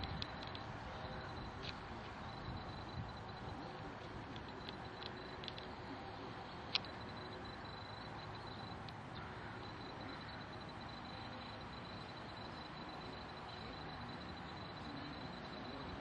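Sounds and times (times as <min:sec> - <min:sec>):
outdoor background hiss: 0:00.0 - 0:16.0
thin high whine: 0:00.0 - 0:16.0.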